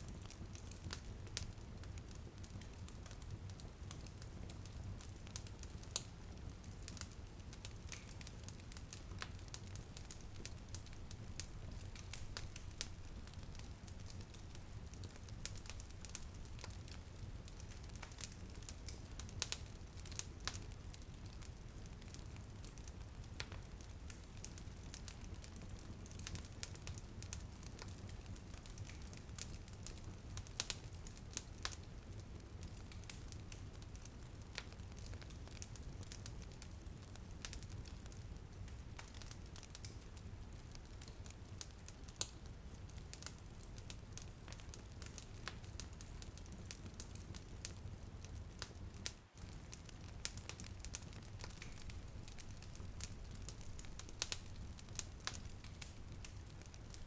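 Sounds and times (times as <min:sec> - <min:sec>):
light rain pattering: 0:00.0 - 0:57.0
wood fire crackling and popping: 0:00.0 - 0:57.0.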